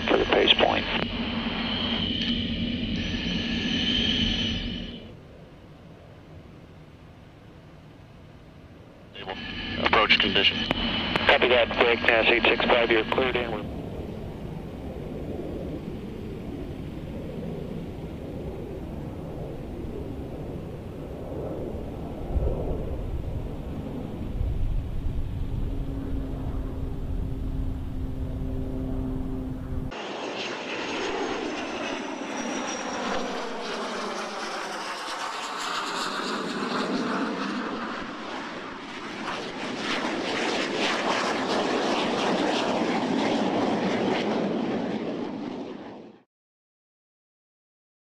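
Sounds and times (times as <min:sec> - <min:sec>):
jet passing low: 0:00.0 - 0:46.2
jet engine rumble: 0:00.0 - 0:46.3.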